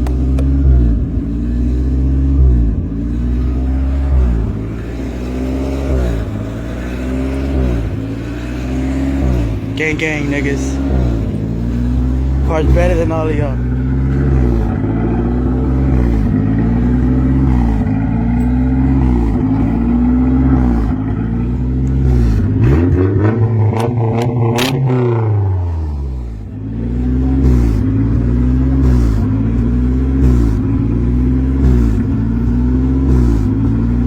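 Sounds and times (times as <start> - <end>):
car engine surging: 0.0 - 34.0.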